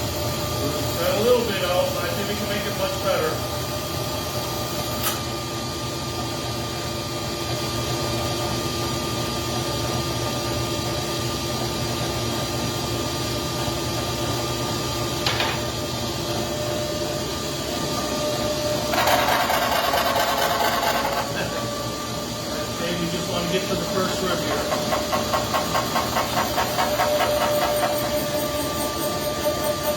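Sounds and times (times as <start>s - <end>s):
machine motor hum and whine: 0.0s - 29.9s.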